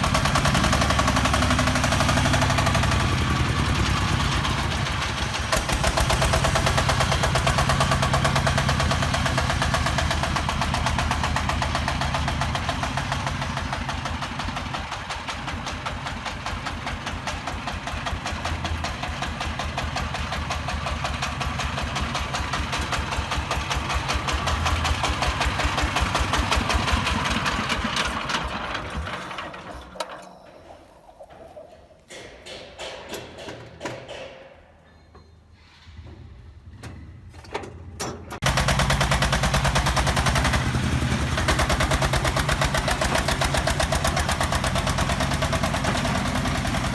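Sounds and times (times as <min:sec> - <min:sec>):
concrete mixer engine running: 0:00.0 - 0:31.0, 0:38.4 - 0:46.9.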